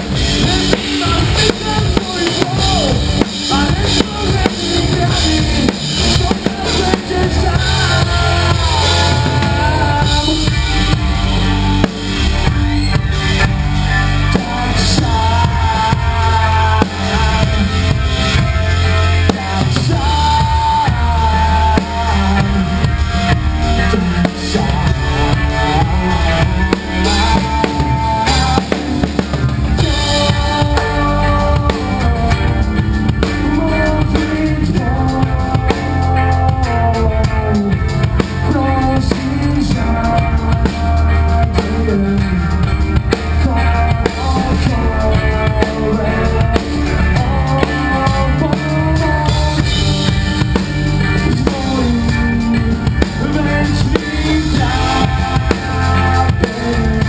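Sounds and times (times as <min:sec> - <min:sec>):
drum kit played hard: 0:00.0 - 0:57.0
rock song: 0:00.0 - 0:57.0.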